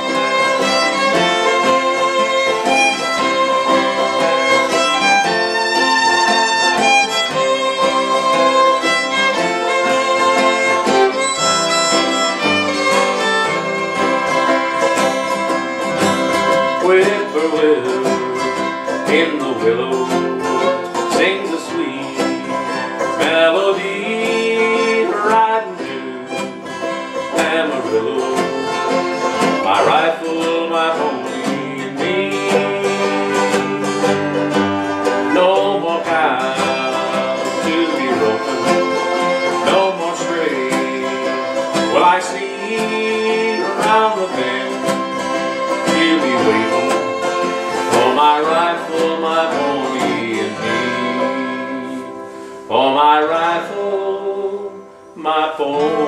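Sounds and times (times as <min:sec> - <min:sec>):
acoustic guitars strumming: 0:00.0 - 0:56.0
banjo: 0:00.0 - 0:56.0
fiddle playing sliding notes: 0:00.0 - 0:56.0.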